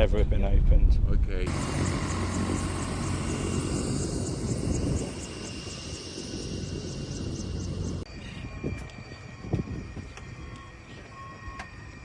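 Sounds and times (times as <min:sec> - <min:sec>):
engine drone: 0:01.4 - 0:12.0.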